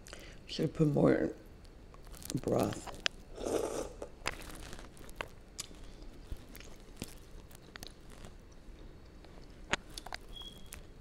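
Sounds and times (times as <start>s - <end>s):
person chewing food: 2.0s - 11.0s.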